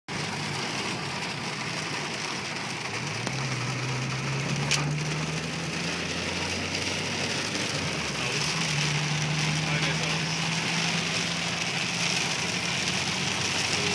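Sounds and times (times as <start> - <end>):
heavy rain falling: 0.1 - 13.9.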